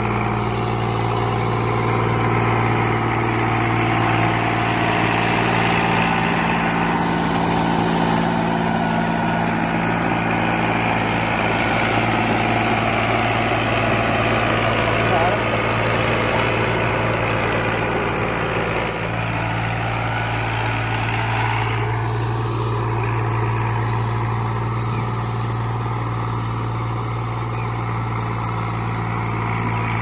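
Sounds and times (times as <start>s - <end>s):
rotavator blades churning soil: 0.0s - 30.0s
tractor diesel engine running: 0.0s - 30.0s.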